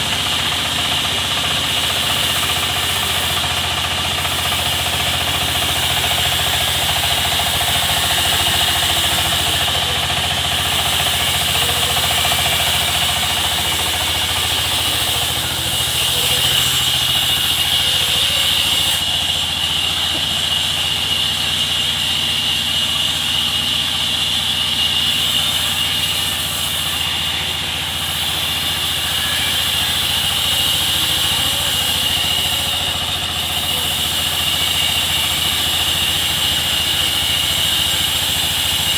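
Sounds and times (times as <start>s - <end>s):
machinery engine hum: 0.0s - 38.9s.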